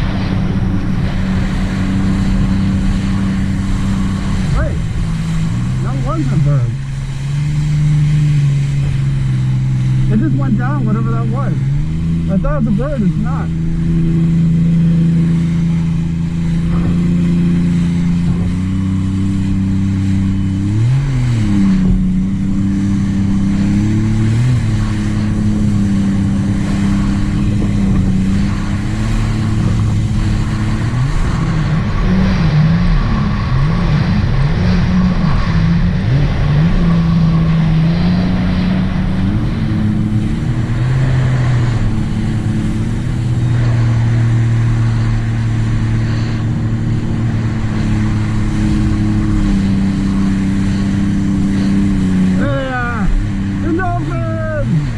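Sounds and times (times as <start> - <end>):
personal watercraft engine running: 0.0 - 54.9.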